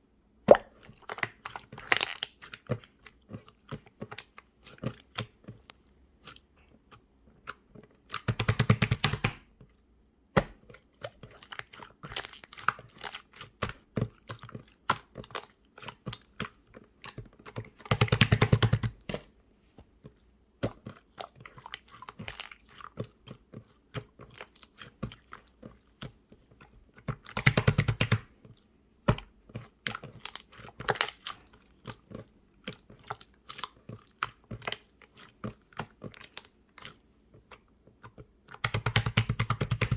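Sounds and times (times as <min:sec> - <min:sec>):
hands working slime: 0:00.1 - 0:39.9.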